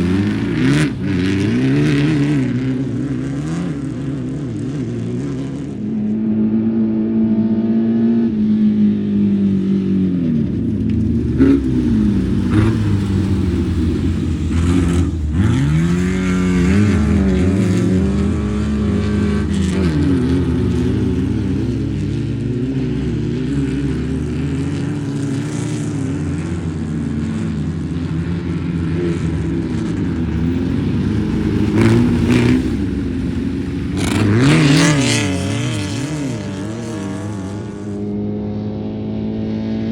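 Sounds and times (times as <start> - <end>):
race engines revving: 0.0 - 5.9, 10.1 - 38.1.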